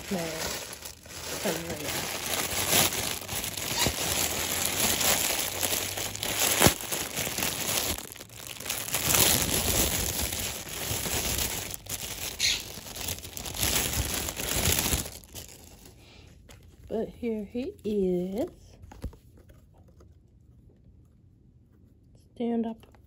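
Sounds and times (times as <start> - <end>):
plastic bag crinkling and rustling: 0.0 - 20.8.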